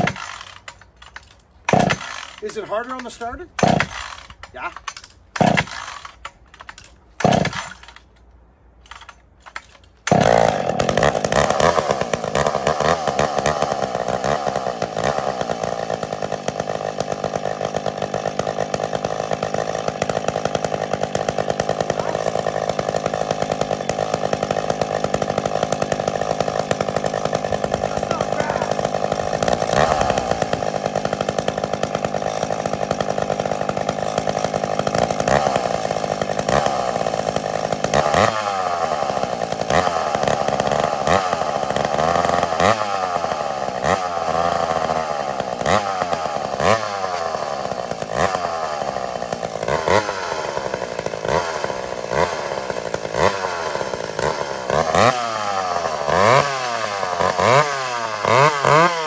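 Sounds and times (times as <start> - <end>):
chainsaw revving: 0.0 - 8.2, 8.8 - 59.0.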